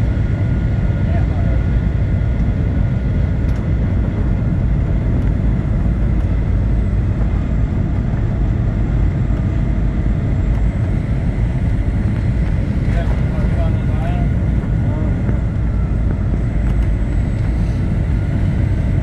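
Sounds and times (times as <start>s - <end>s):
jet cabin engine rumble: 0.0s - 19.0s.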